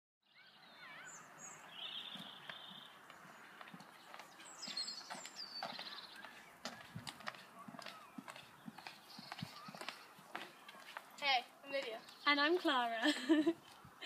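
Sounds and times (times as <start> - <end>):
small birds chirping: 0.2 - 14.0
footsteps on paved path: 1.2 - 14.0.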